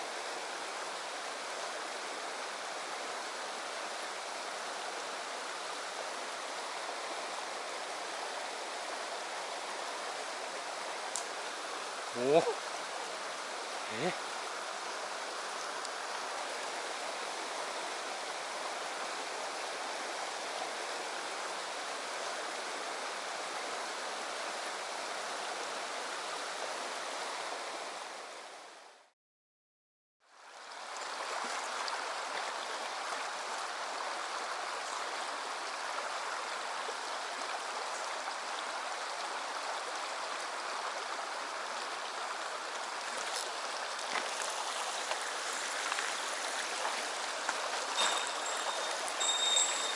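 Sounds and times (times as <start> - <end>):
stream rushing over rocks: 0.0 - 29.1, 30.3 - 49.9.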